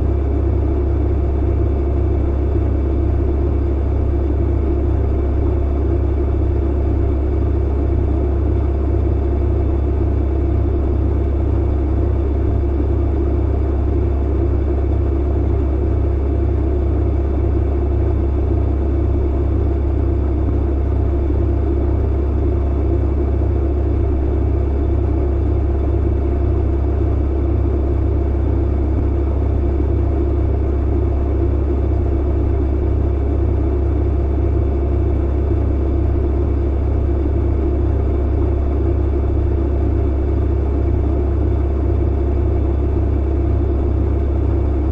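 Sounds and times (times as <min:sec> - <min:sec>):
clothes dryer rumbling: 0:00.0 - 0:44.9.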